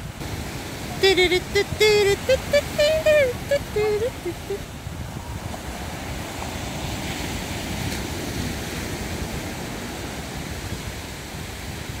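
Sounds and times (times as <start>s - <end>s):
small waves washing up a beach: 0.0s - 12.0s.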